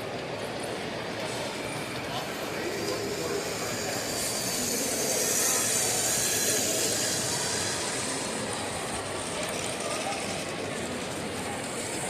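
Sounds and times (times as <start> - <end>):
steady background noise: 0.0 - 12.0
toy train rolling on plastic track: 0.0 - 12.0.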